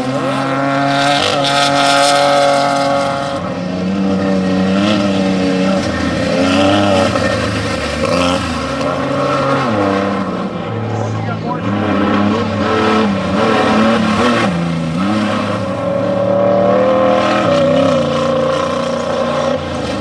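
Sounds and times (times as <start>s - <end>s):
racing engine revving: 0.0s - 20.0s.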